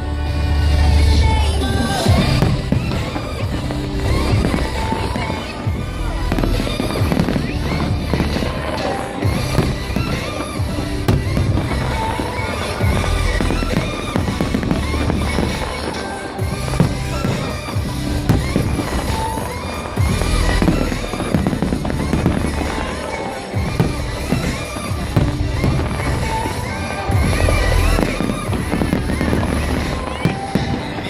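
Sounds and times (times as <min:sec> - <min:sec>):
fireworks booming: 0:00.0 - 0:31.0
music playing: 0:00.0 - 0:31.0.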